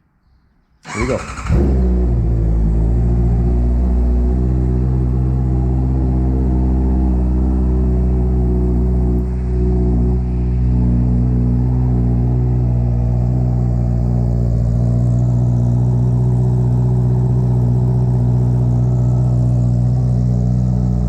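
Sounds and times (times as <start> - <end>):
motorcycle engine running steadily: 1.4 - 21.0.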